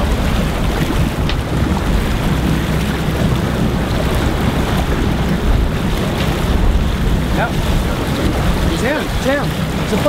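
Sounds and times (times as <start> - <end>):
boat engine rumble: 0.0 - 10.0
water rushing past boat: 0.0 - 10.0
wind buffeting microphone: 0.0 - 10.0.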